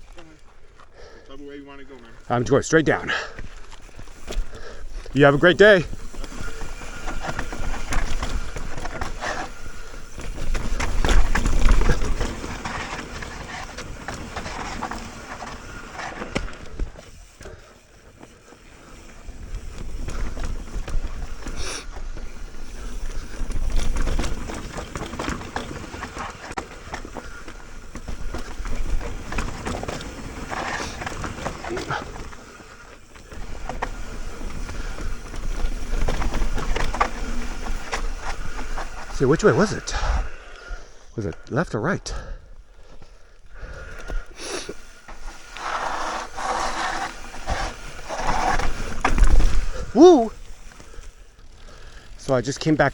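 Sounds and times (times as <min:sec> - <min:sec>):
bike rattling over bumps: 0:00.0 - 0:41.2, 0:42.1 - 0:52.9
bike tyres on dirt: 0:00.0 - 0:52.9.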